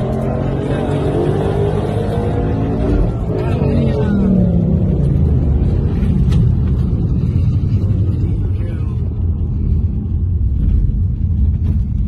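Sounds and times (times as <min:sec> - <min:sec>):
car road and wind rumble: 0:00.0 - 0:12.0.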